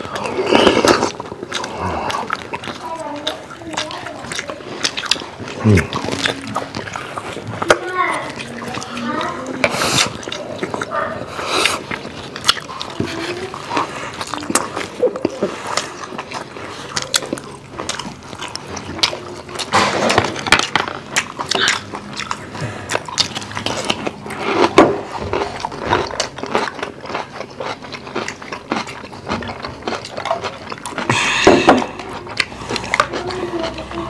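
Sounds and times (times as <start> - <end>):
people chewing crunchy vegetables: 0.0 - 34.0.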